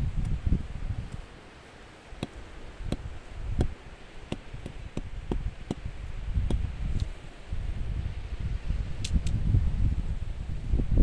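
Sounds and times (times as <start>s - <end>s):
wind rumbling on microphone: 0.0s - 1.4s, 2.2s - 11.0s.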